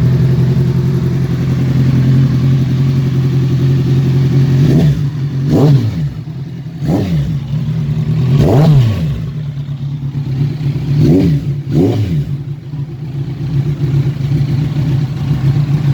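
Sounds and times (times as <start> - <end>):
motorcycle engine idling and revving: 0.0 - 15.9.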